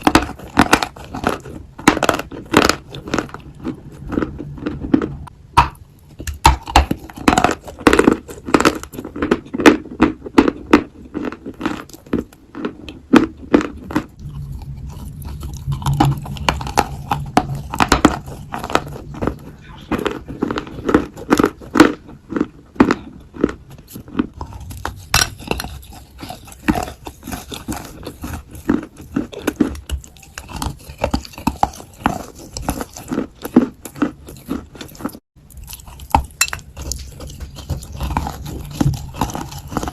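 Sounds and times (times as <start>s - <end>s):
clay being chewed with crunches: 0.0s - 39.9s.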